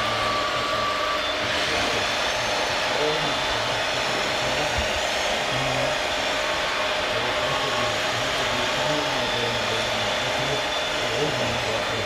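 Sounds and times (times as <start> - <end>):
hydraulic pump whirring: 0.0 - 12.0.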